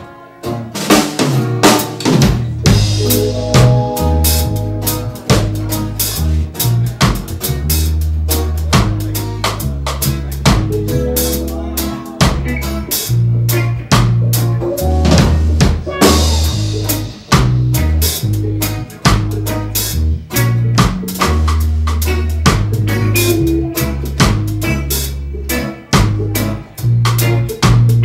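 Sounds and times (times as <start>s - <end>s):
strummed guitars: 0.0s - 28.0s
drum kit beat: 0.7s - 28.0s
deep bass notes: 2.5s - 28.0s.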